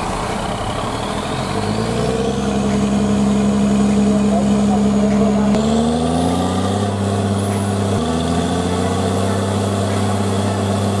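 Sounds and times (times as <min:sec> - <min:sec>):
air compressor: 0:00.0 - 0:11.0
drilling rig diesel engines: 0:00.0 - 0:11.0.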